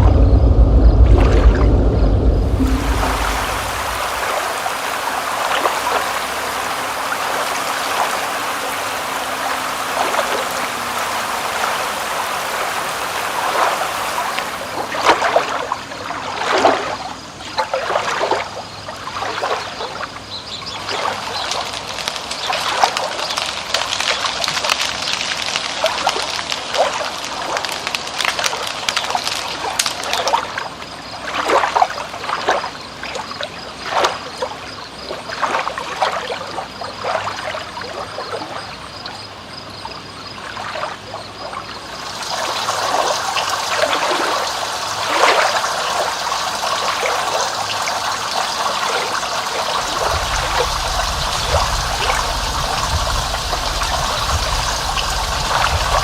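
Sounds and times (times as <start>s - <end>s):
running water trickling and splashing: 2.4s - 56.0s.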